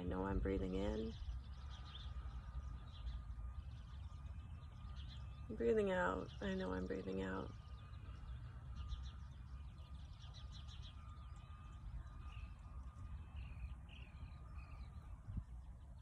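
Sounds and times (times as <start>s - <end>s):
birds chirping and calling: 0.0s - 16.0s
low outdoor rumble: 0.0s - 16.0s.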